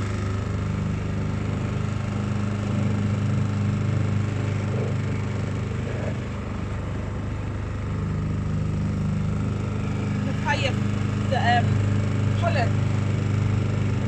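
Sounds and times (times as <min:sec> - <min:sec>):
motor boat engine running: 0:00.0 - 0:14.0.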